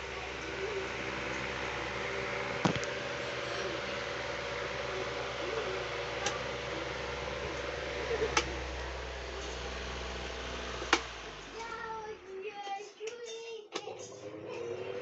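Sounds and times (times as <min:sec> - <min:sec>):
electric fan motor hum: 0:00.0 - 0:13.1, 0:13.8 - 0:15.0.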